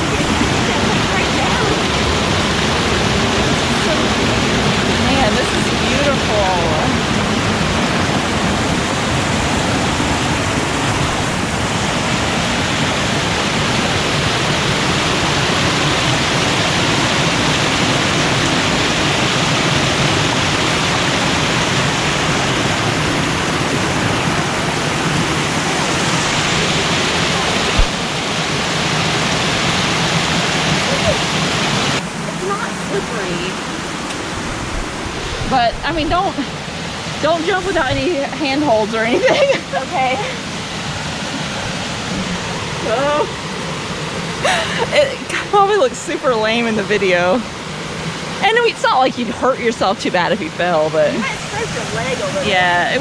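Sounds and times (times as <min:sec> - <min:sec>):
water rushing over waterfall: 0:00.0 - 0:53.0.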